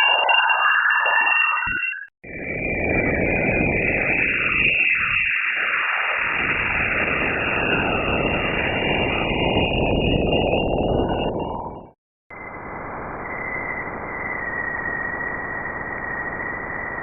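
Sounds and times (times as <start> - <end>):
faint falling whistles: 0.0 - 17.0.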